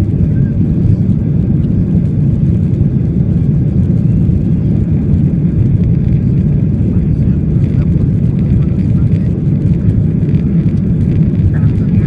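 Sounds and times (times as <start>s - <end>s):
low rumble of jet engines: 0.0s - 12.0s.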